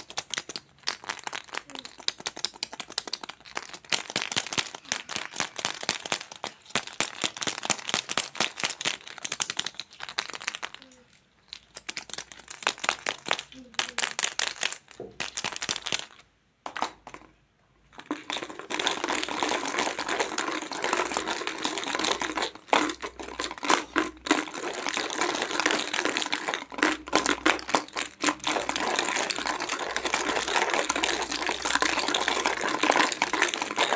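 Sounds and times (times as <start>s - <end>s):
plastic crinkling and clicking: 0.0s - 17.3s, 18.0s - 33.9s.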